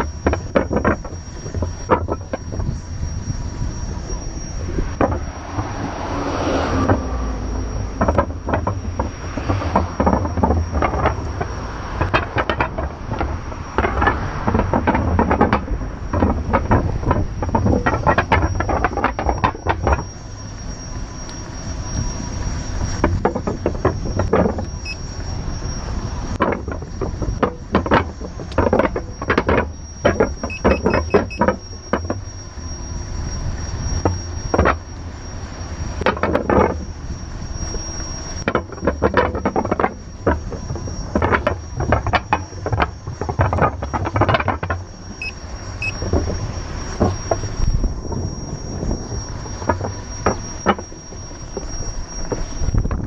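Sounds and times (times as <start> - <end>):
wheel knocking over paving joints: 0.0 - 32.4, 33.8 - 34.9, 36.0 - 53.0
high thin whine: 0.0 - 53.0
wind and tyre rumble: 0.0 - 53.0.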